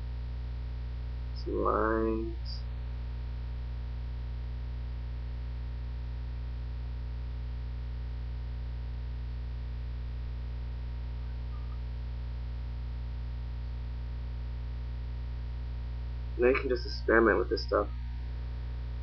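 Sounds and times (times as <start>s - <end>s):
mains hum: 0.0s - 19.0s.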